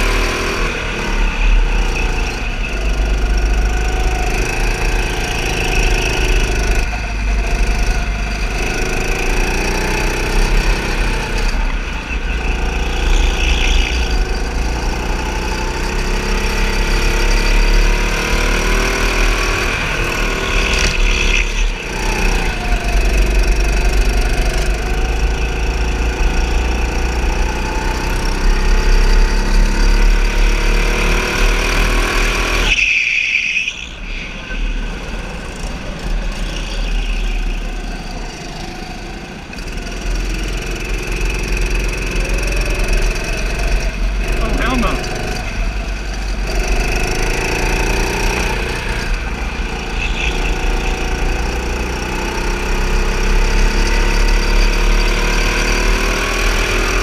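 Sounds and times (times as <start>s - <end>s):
go-kart motor running: 0.0s - 57.0s.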